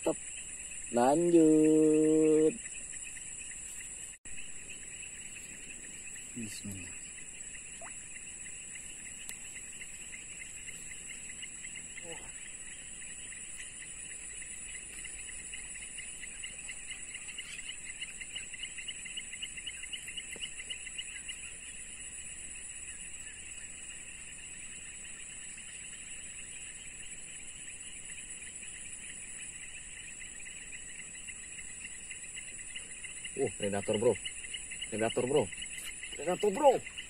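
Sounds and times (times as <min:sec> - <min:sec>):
high-pitched insect chirring: 0:00.0 - 0:37.0
low pulsing insect trill: 0:00.0 - 0:37.0.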